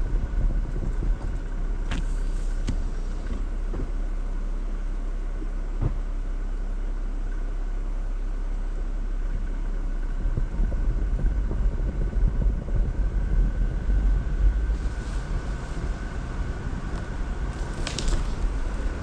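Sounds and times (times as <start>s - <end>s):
engine and drivetrain rumble: 0.0s - 19.0s.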